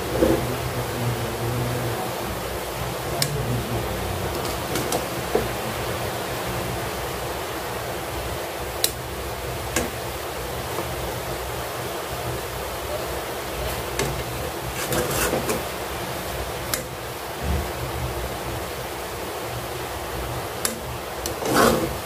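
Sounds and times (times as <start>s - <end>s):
hiss and low hum: 0.0s - 22.0s.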